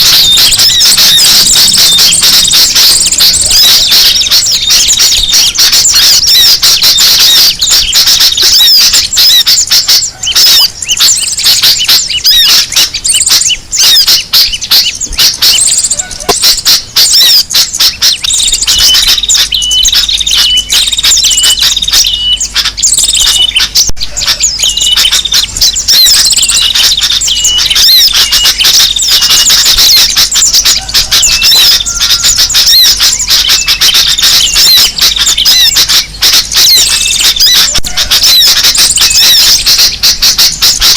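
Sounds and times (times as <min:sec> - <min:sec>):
birds chirping and twittering: 0:00.0 - 0:40.9
repeated short bird call: 0:00.0 - 0:40.9.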